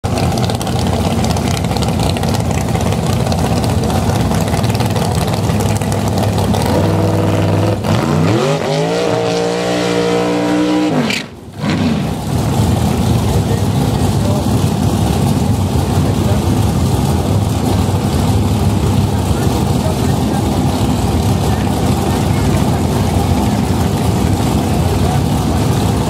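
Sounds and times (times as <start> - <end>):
dragster engine revving: 0.0 - 26.0
tyres spinning in burnout: 0.1 - 26.0.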